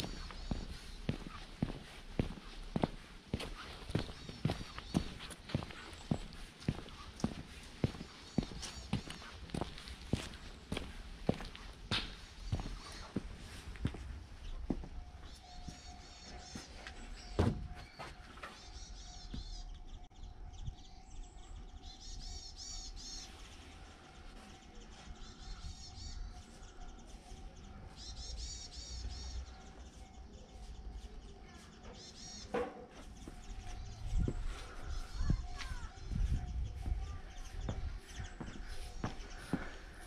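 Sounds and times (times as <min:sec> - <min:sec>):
songbird chirping: 0:00.0 - 0:40.0.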